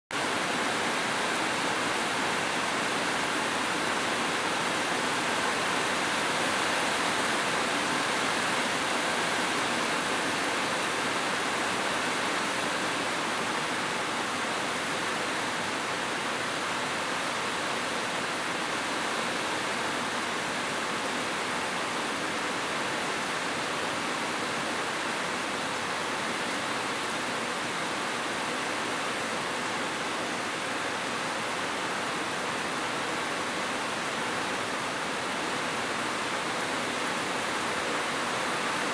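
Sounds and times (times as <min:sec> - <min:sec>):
heavy rain on metal roofs: 0:00.1 - 0:38.9.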